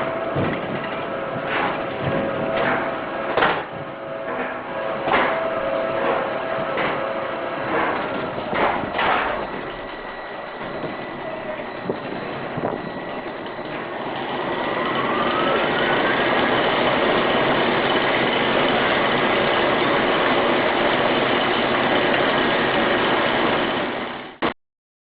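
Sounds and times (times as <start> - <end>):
rising mechanical whine: 0.0 - 24.3
roller coaster machinery rushing: 0.0 - 24.5.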